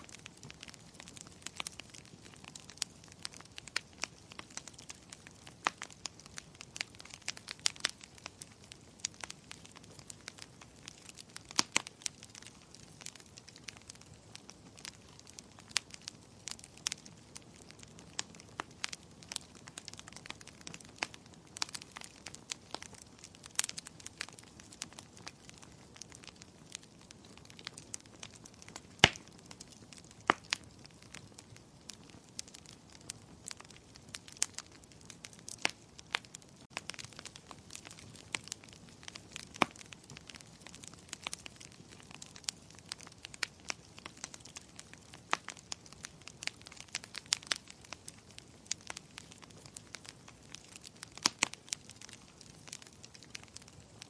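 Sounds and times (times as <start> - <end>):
fire crackling and popping: 0.0 - 54.0
wood fire hissing: 0.0 - 54.0.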